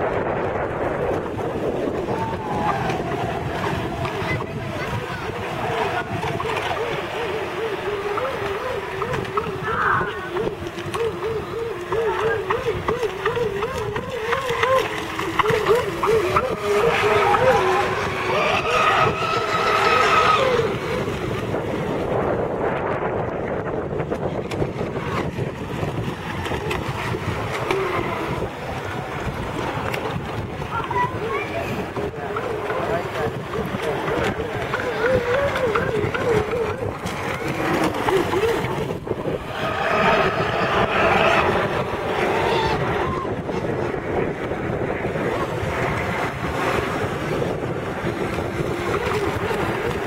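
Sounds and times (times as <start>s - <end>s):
model speedboat motors: 0.0s - 50.0s
racing boats rushing: 0.0s - 50.0s
wind buffeting microphone: 0.0s - 50.0s.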